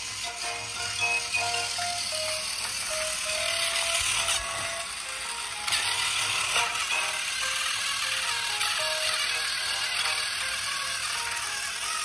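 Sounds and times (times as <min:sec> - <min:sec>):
toy train gears whirring: 0:00.0 - 0:12.0.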